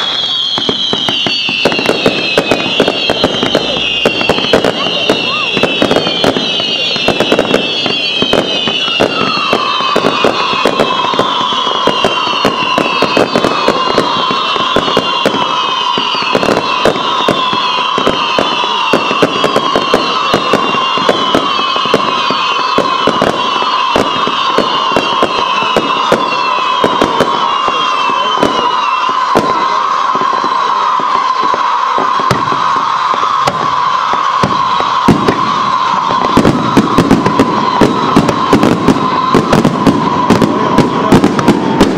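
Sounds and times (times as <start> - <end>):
fireworks bangs and crackles: 0.0 - 41.9
fireworks whistling: 0.0 - 41.9
steady lower whistle: 0.0 - 41.9.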